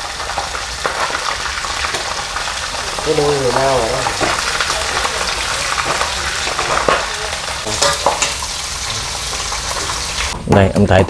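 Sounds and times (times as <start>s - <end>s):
fish sizzling in hot oil: 0.0s - 10.4s
oil popping and crackling: 0.0s - 11.0s.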